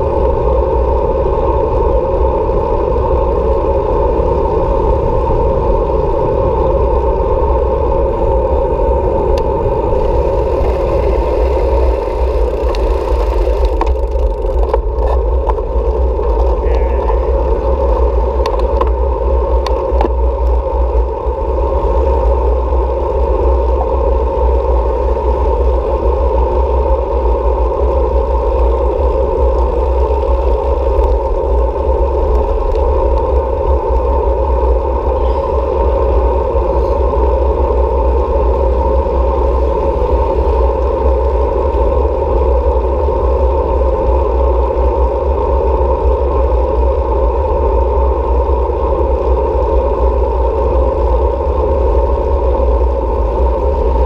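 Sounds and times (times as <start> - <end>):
road noise while cycling: 0.0 - 54.0
wind buffeting microphone: 0.0 - 54.0.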